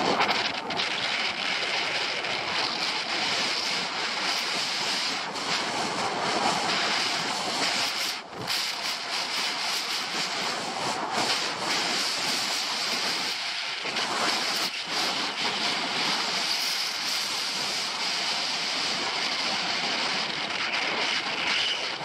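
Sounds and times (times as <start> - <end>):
skis scraping on snow: 0.0 - 22.0
wind noise on microphone: 0.0 - 22.0.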